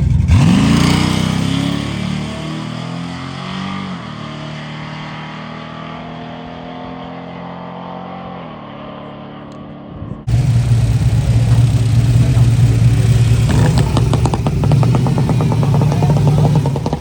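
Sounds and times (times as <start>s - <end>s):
drag racing engine at full throttle: 0.0s - 17.0s.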